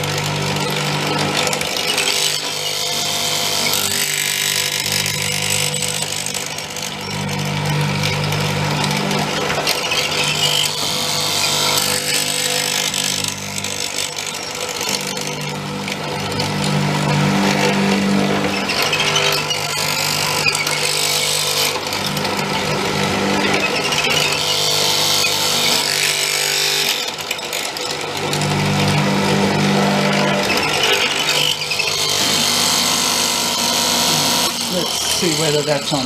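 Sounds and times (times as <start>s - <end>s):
chisel cutting wood: 0.0s - 36.0s
electric motor humming: 0.0s - 36.0s.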